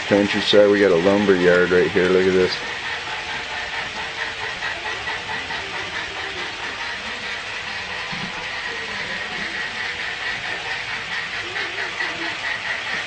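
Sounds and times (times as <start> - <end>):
model train wheels rolling: 0.0 - 13.0.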